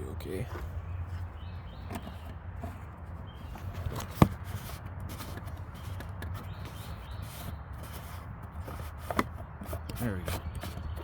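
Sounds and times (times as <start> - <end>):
handling and shuffling noises: 0.2 - 11.0.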